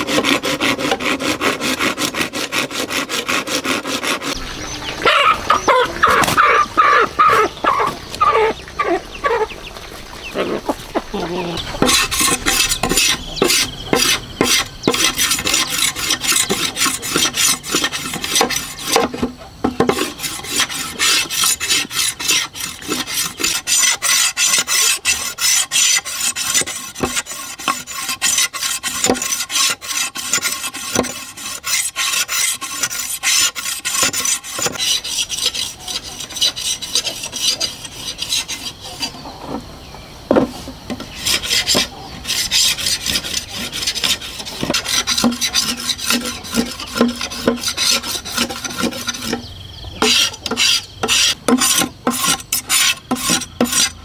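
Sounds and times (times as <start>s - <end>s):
machete scraping bamboo: 0.0s - 8.5s, 11.4s - 39.6s, 40.3s - 54.0s.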